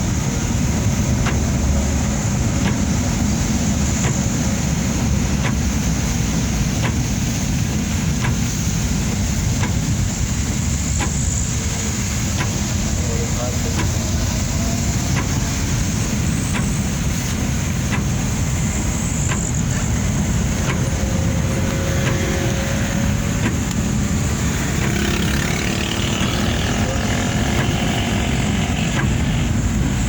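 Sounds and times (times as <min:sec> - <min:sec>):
truck engine low rumble: 0:00.0 - 0:30.0.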